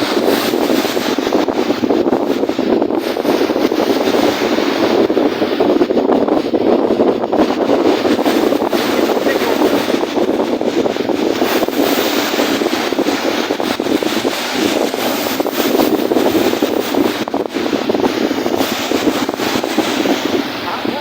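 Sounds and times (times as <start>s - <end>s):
lake waves washing: 0.0s - 21.0s
strong wind over microphone: 0.0s - 21.0s.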